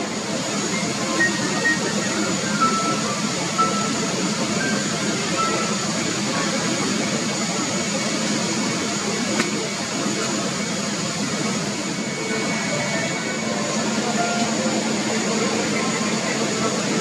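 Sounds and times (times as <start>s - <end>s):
jet airliner noise: 0.0s - 17.0s.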